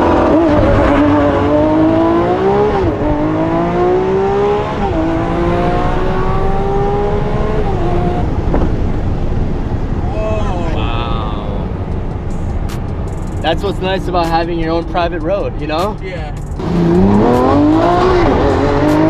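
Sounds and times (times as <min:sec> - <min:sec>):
car engine accelerating hard: 0:00.0 - 0:15.7, 0:16.6 - 0:19.0
road rumble: 0:00.0 - 0:19.0.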